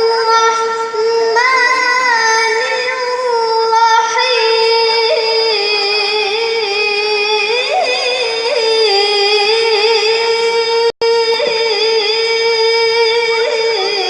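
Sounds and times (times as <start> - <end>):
child reciting melodically: 0.0 - 14.0.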